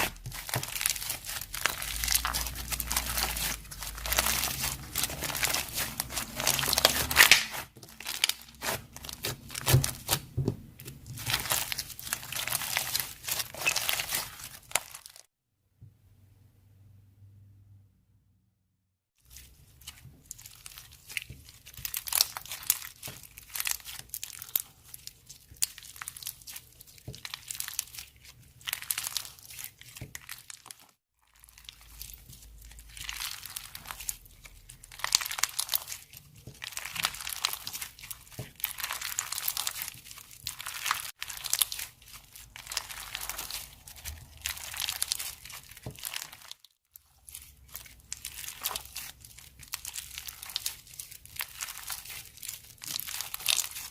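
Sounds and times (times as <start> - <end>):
slime squeezed by hand crackling: 0.0 - 15.2, 19.3 - 53.9.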